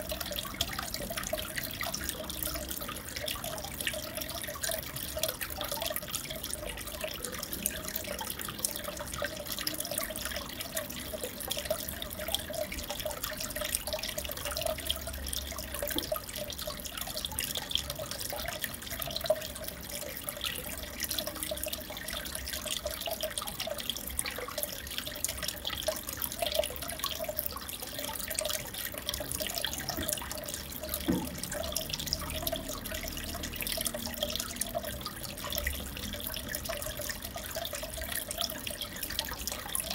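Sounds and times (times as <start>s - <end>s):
aquarium water bubbling: 0.0s - 39.9s
water drips and splashes: 0.0s - 39.9s.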